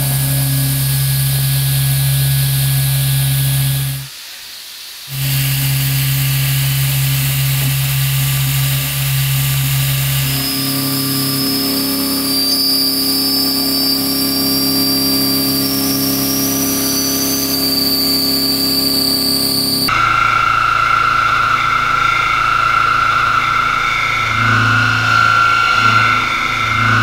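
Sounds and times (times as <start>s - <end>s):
thin high whine: 0.0s - 4.2s, 5.1s - 27.0s
milling machine cutting steel: 5.2s - 27.0s.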